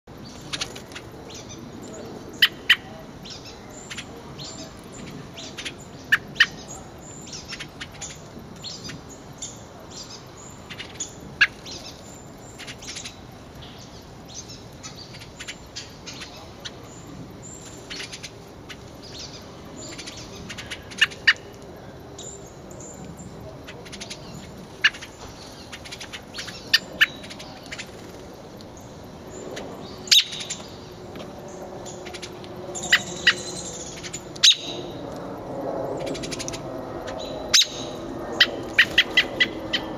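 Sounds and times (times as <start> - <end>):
low outdoor background noise: 0.0 - 39.9.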